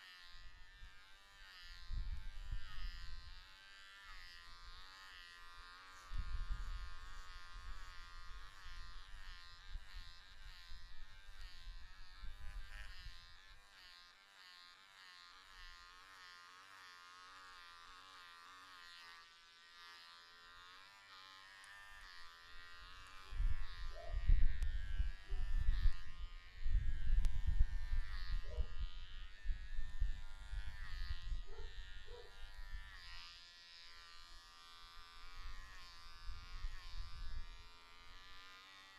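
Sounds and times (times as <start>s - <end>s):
electric hair clippers buzzing: 0.0s - 38.9s.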